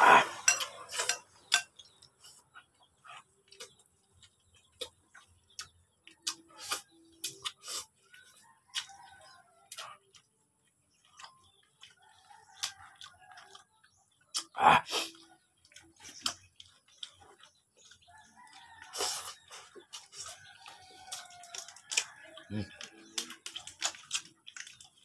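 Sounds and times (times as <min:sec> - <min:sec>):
man eating with lip smacks: 0:00.2 - 0:08.9, 0:12.6 - 0:18.0, 0:18.8 - 0:25.0.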